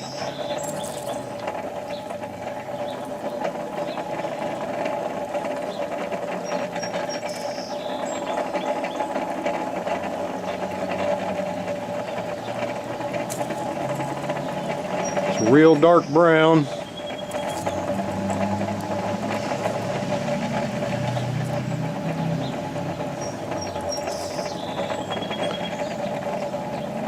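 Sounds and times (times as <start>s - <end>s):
forge blower whirring: 0.0s - 27.0s.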